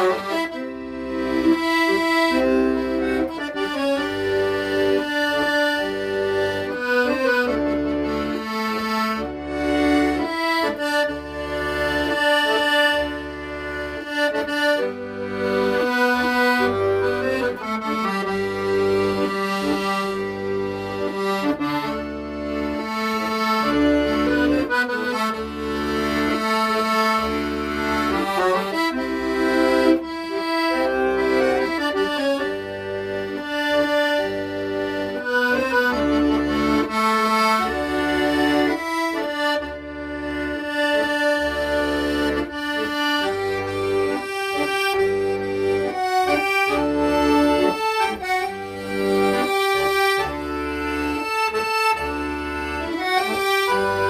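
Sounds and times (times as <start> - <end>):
accordion melody: 0.0 - 54.0.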